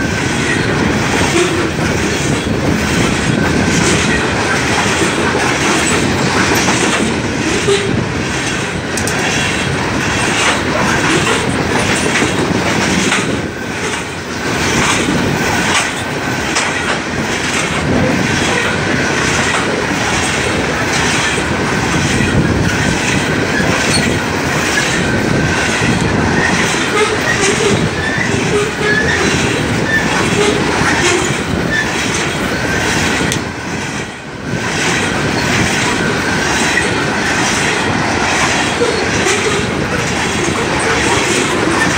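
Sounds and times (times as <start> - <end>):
train wheels clicking over rail joints: 0.0 - 41.9.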